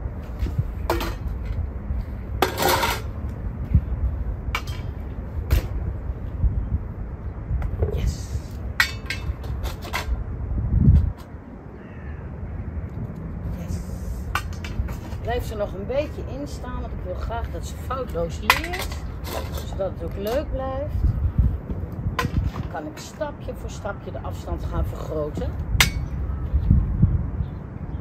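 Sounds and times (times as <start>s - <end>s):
steady low rumble: 0.0s - 22.8s.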